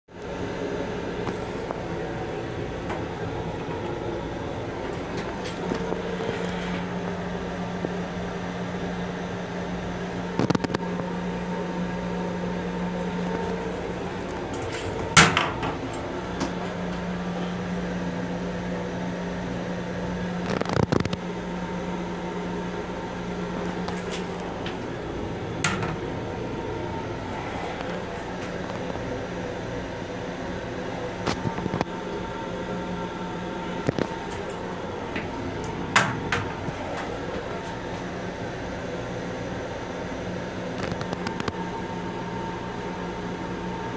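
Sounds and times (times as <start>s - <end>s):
railcar hum: 0.1s - 10.4s, 11.2s - 19.8s, 21.5s - 40.6s.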